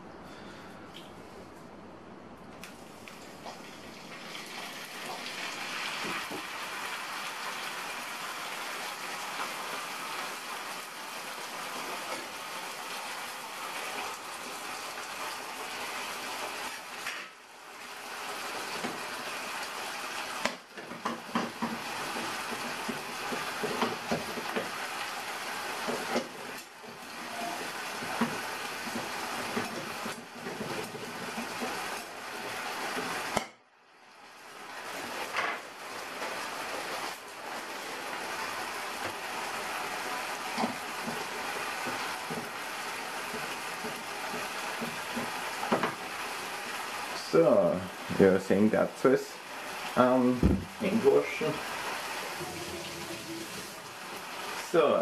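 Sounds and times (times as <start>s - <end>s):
meat sizzling in oil: 3.5s - 33.5s, 34.2s - 55.0s.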